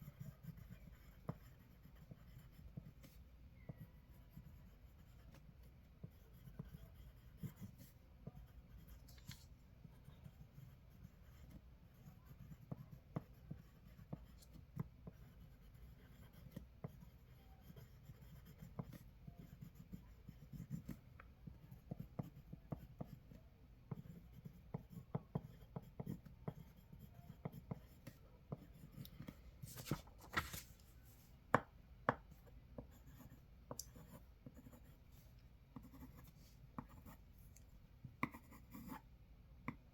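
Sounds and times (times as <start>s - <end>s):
pencil writing on paper: 0.0s - 9.2s, 10.2s - 29.3s, 32.1s - 37.3s, 38.2s - 39.1s.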